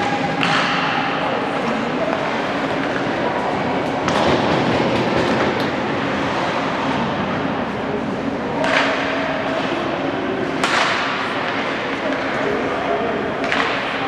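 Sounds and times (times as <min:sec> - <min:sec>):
rumble of ice hockey play: 0:00.0 - 0:14.0.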